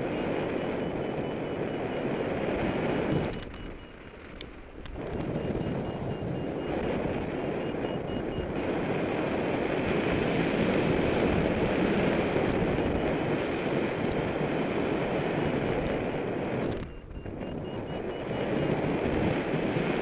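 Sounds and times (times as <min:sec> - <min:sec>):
variometer beeping: 0:00.0 - 0:20.0
wind rushing over microphone: 0:00.0 - 0:20.0.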